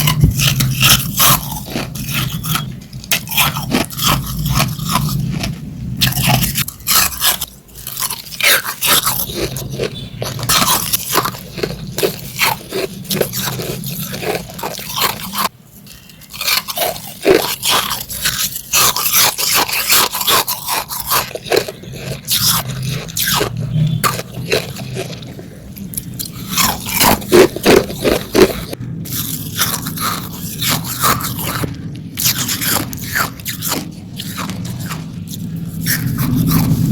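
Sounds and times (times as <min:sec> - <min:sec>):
ice being chewed: 0:00.0 - 0:36.9.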